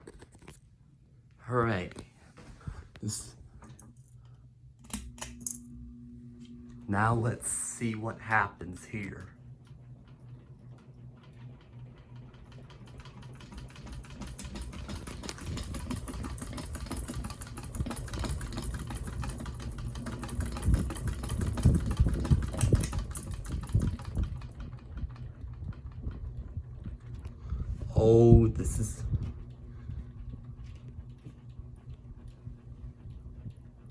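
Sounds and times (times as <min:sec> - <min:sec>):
ceiling fan ticking rattle: 0:01.4 - 0:33.9.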